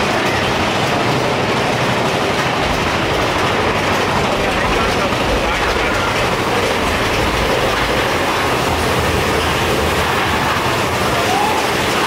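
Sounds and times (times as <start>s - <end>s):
roller coaster rumbling on rails: 0.0s - 12.0s.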